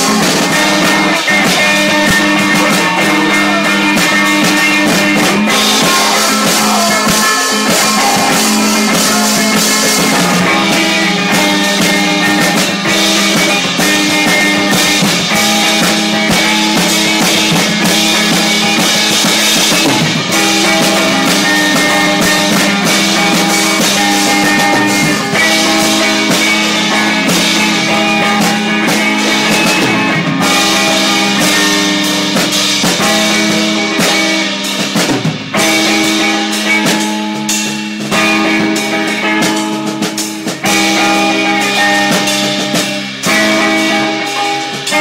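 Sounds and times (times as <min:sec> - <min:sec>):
drum kit: 0:00.0 - 0:45.0
electric guitars: 0:00.0 - 0:45.0.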